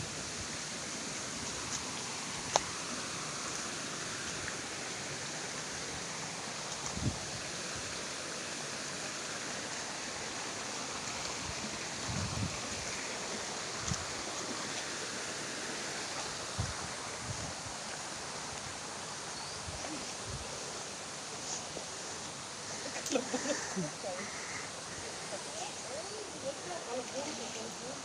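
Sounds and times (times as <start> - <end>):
mountain stream flowing water: 0.0 - 28.0.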